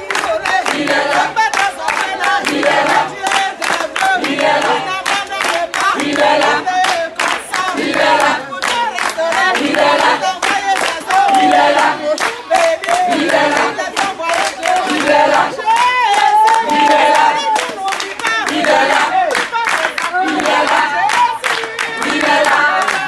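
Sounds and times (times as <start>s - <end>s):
group singing: 0.0s - 23.0s
rhythmic hand clapping: 0.0s - 23.0s.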